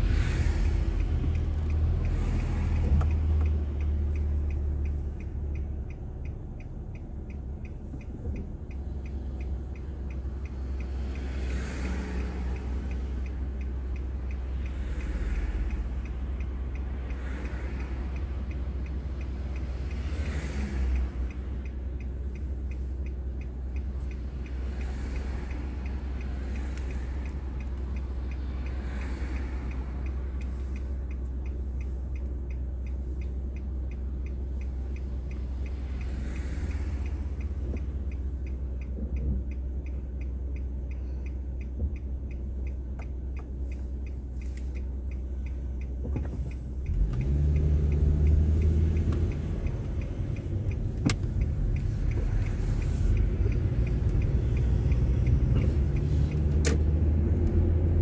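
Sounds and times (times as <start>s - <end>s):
car road noise rumble: 0.0s - 58.0s
faint regular ticking: 0.0s - 58.0s
passing traffic: 0.0s - 58.0s.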